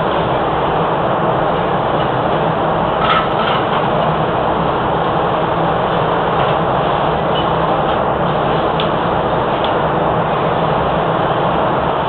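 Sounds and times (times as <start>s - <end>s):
machine drone and hiss: 0.0s - 12.0s.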